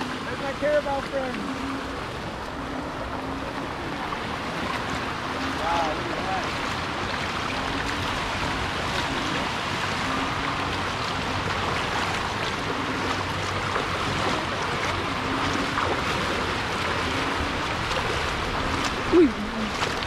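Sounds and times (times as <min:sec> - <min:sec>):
feet splashing through water: 0:00.0 - 0:20.0
running water rushing: 0:00.0 - 0:20.0.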